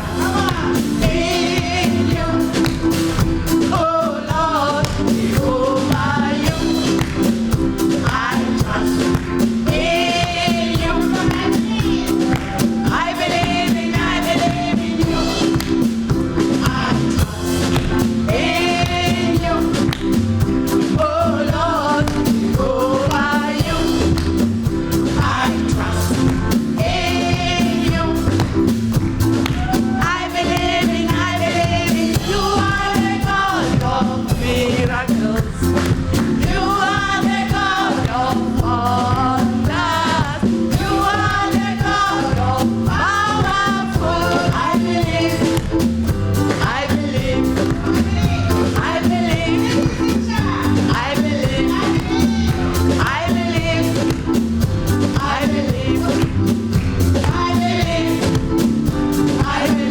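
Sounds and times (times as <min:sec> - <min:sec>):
band with drums: 0:00.0 - 0:59.9
gospel vocals: 0:00.0 - 0:59.9.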